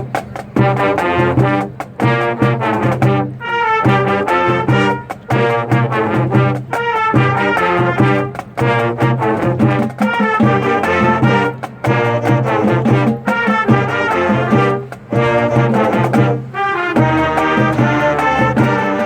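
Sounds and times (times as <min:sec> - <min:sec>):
brass: 0:00.0 - 0:19.0
school band playing: 0:00.0 - 0:19.0.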